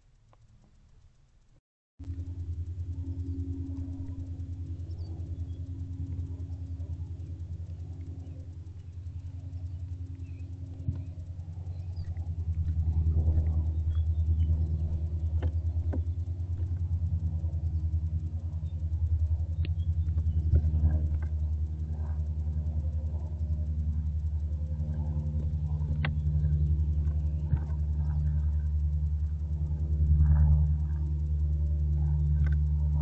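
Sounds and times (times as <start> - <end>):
low rumbling hum: 0.0 - 33.0
sharp clicks: 0.0 - 33.0.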